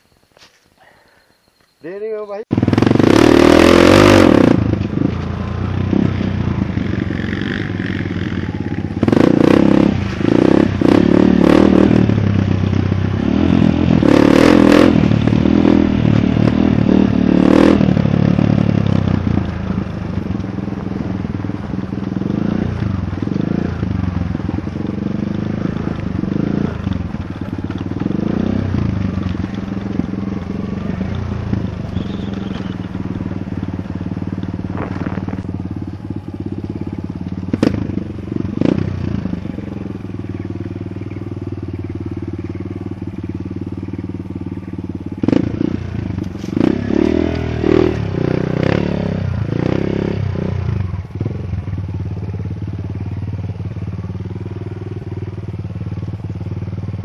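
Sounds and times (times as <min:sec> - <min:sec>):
dirt bike engine at low revs: 0:01.8 - 0:57.0.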